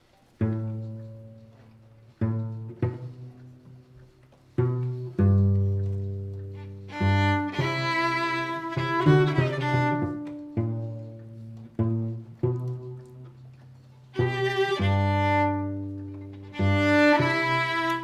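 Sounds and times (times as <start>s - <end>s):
bowed strings: 0.4s - 18.0s
low strings plucked pizzicato: 0.4s - 18.0s.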